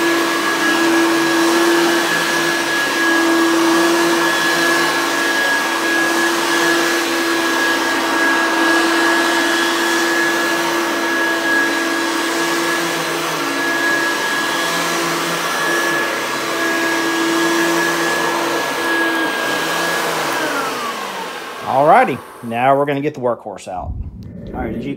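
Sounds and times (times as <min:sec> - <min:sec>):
vacuum cleaner running on carpet: 0:00.0 - 0:22.8.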